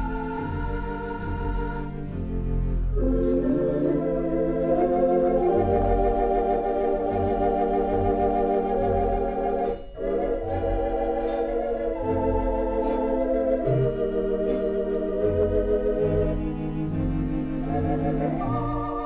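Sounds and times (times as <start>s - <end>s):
pipe organ chords with tremulant: 0.0s - 19.0s.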